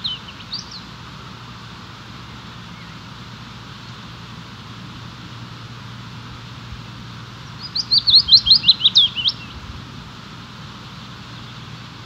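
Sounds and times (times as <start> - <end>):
songbird singing: 0.0 - 4.4, 5.7 - 12.0
stream rushing: 0.0 - 12.0.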